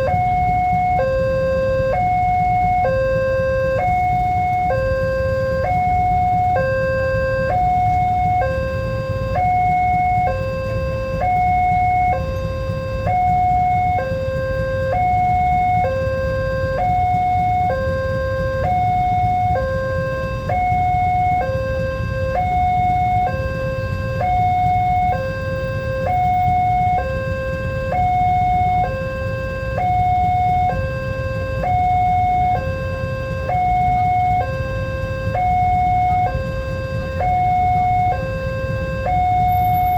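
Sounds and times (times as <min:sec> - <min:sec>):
steady low rumble: 0:00.0 - 0:39.9
two-tone crossing alarm: 0:00.0 - 0:39.9.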